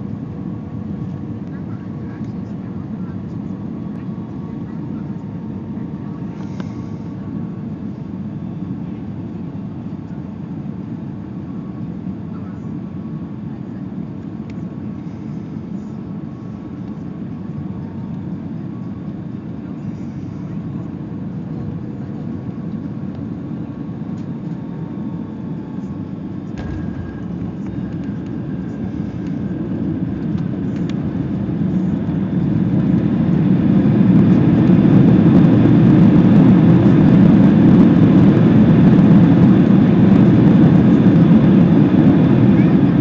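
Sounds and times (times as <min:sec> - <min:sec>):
jet airliner cabin roar: 0:00.0 - 0:43.0.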